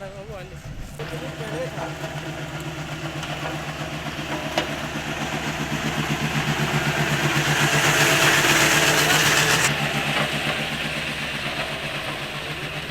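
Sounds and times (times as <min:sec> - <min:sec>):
engine throbbing: 0:01.0 - 0:12.9
loud rushing hiss: 0:01.0 - 0:12.9.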